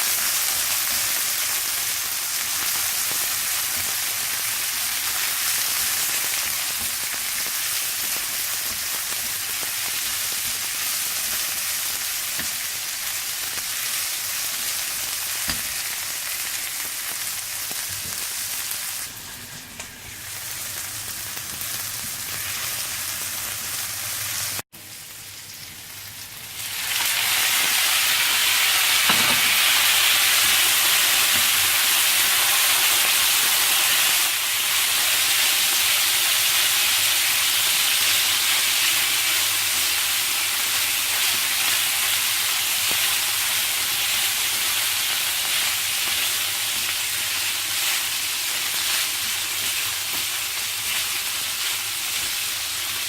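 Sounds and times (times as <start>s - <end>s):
meat sizzling in hot oil: 0.0s - 53.0s.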